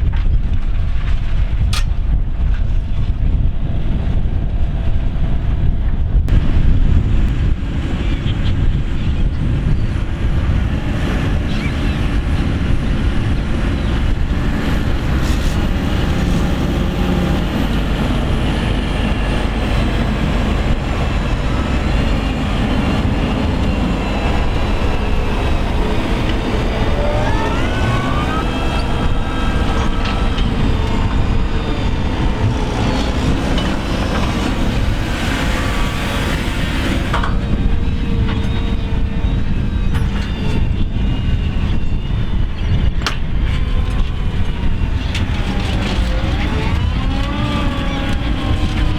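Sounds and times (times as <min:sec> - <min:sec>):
tractor diesel engine under load: 0:00.1 - 0:48.9.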